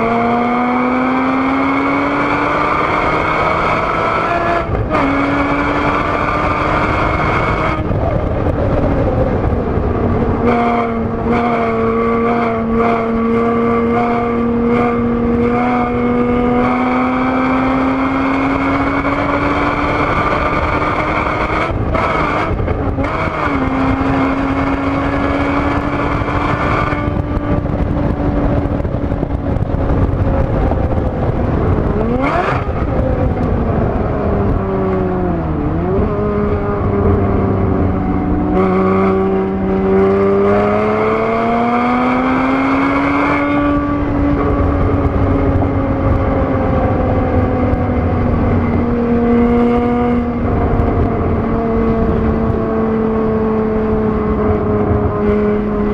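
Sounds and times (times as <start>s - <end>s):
car engine revving hard: 0.0s - 8.5s, 9.3s - 30.2s, 30.9s - 55.9s
road and wind noise: 0.0s - 55.9s.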